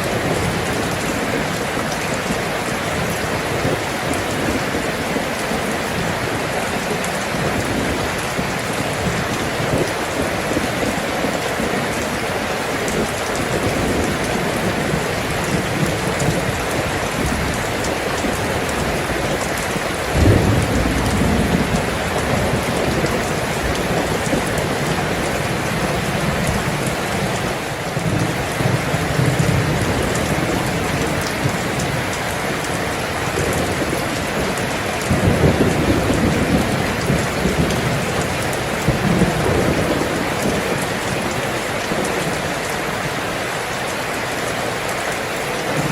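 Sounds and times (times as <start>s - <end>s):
thunder rumbling: 0.0s - 42.9s
heavy rain falling: 0.0s - 45.9s.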